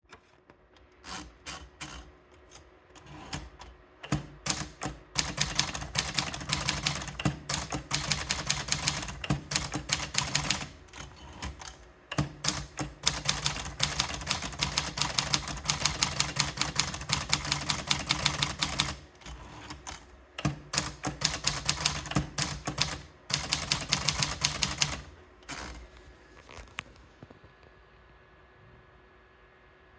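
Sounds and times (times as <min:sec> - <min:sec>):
typewriter typing: 0:01.0 - 0:25.8.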